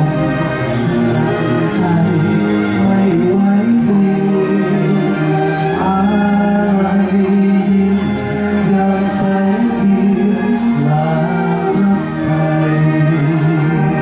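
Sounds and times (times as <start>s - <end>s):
band playing slow held chords: 0.0s - 14.0s
person singing: 0.0s - 14.0s.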